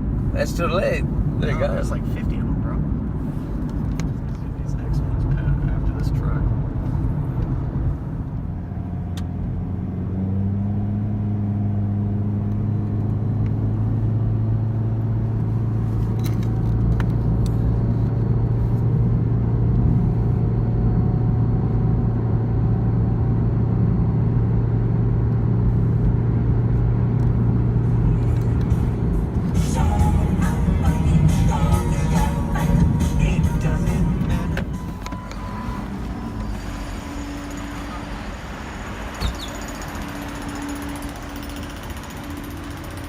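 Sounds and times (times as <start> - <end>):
car engine drone: 0.0 - 43.0
road noise: 0.0 - 43.0.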